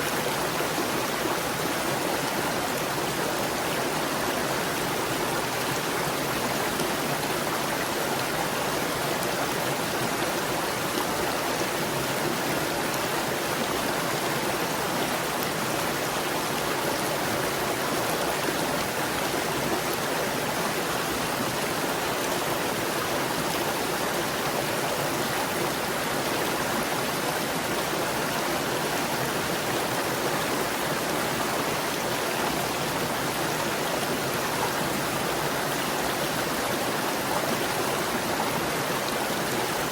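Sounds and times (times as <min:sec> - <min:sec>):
stream gurgling: 0:00.0 - 0:39.9.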